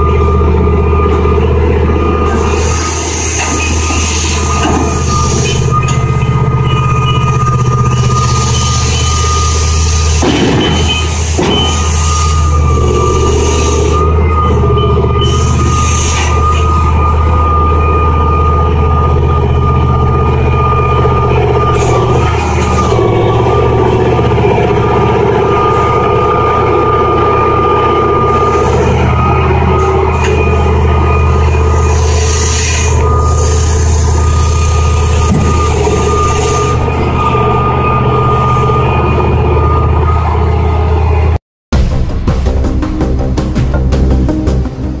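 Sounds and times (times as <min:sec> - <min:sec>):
deep diesel engine hum: 0:00.0 - 0:45.0
high whine: 0:00.0 - 0:45.0.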